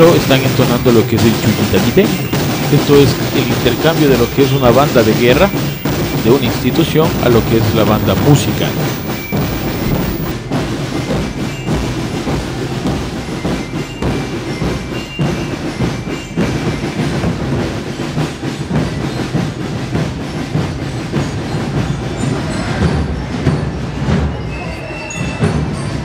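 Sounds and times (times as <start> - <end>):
marching band playing tune: 0.0 - 22.8
drums beating steady rhythm: 0.0 - 24.5.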